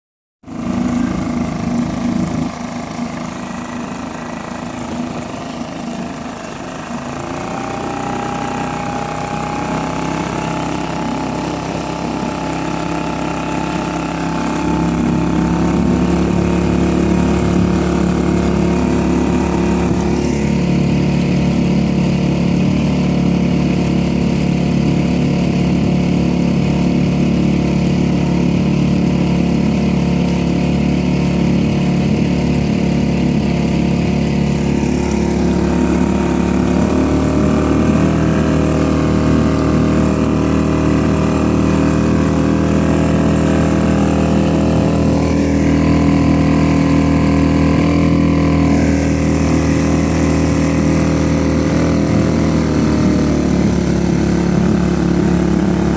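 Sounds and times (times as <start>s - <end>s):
outboard motor running: 0.4s - 55.9s.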